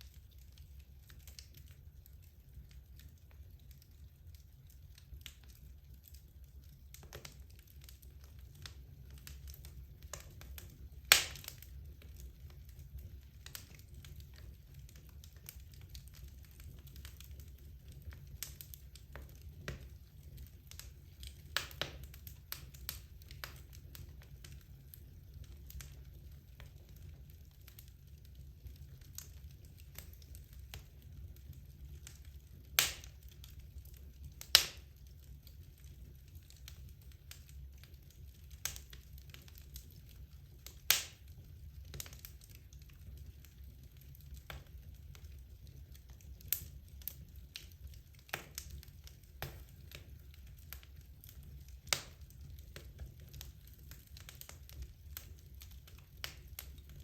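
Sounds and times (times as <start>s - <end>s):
fire crackling: 0.0s - 57.0s
fire low rumble: 0.0s - 57.0s.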